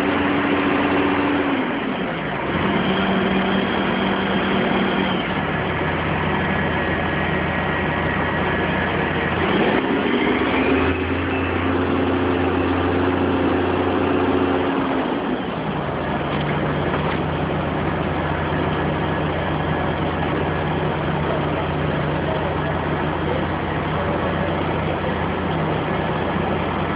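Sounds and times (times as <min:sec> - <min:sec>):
crane engine running: 0:00.0 - 0:26.9.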